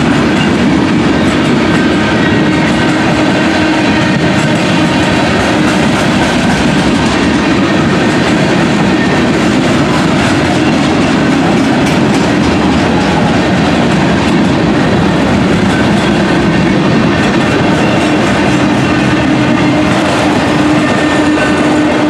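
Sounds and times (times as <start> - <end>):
train wheels rumbling on rail: 0.0 - 22.0
wheels clicking over rail joints: 0.0 - 22.0.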